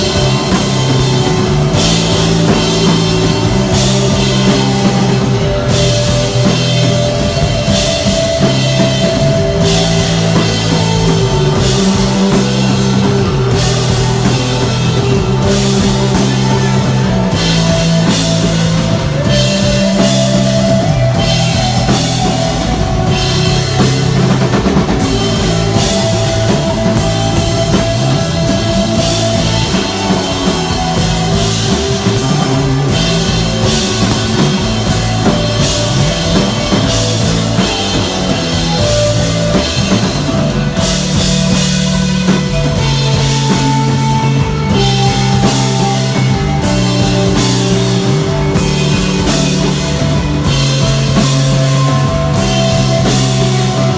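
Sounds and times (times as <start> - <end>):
rock band playing live: 0.0 - 53.9.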